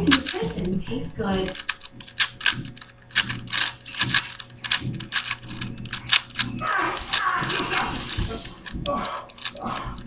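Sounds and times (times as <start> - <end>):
puzzle cube clicking: 0.0 - 10.0.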